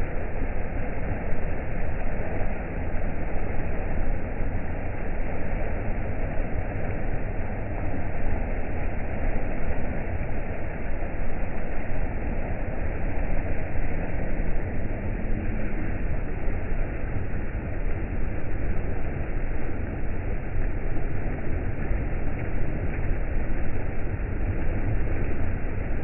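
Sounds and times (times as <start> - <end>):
river cascade rushing over boulders: 0.0 - 26.0.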